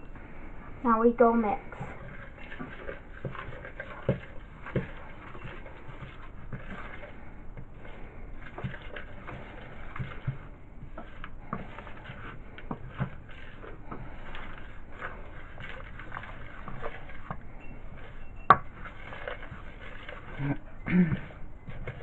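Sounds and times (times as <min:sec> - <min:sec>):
spoon scraping glass bowl: 0:01.2 - 0:22.0.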